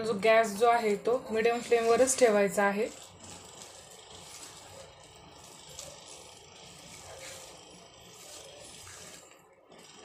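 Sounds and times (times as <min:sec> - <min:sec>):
spatula scraping thick mixture: 0:01.0 - 0:10.0.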